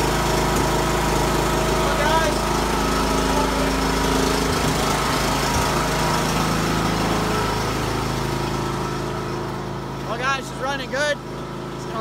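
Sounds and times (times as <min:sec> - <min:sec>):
lawn tractor engine idling: 0:00.0 - 0:12.0.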